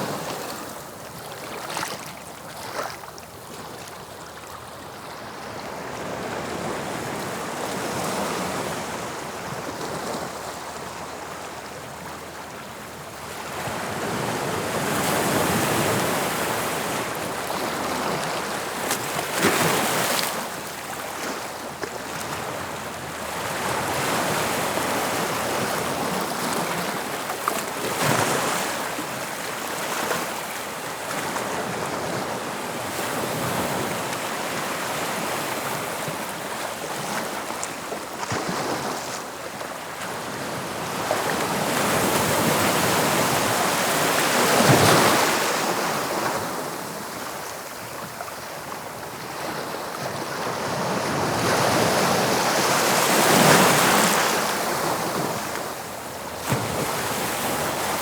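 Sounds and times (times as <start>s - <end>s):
sea waves breaking on shore: 0.0s - 58.0s
wind: 0.0s - 58.0s.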